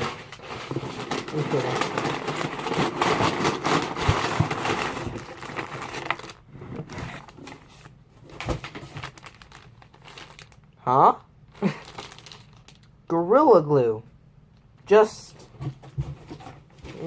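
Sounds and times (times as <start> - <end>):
packing paper rustling: 0.0 - 10.7, 11.5 - 12.9, 15.4 - 17.0.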